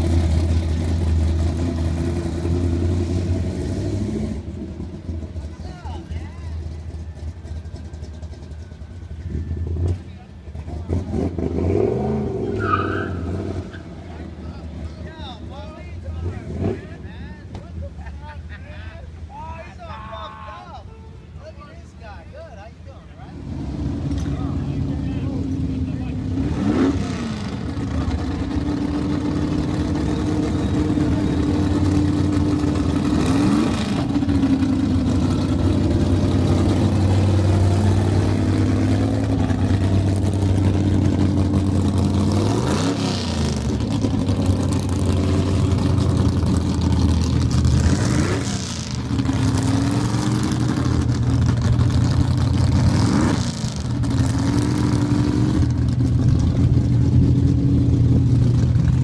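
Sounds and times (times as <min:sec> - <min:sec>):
engine idling and revving: 0:00.0 - 0:18.0, 0:23.2 - 0:59.0.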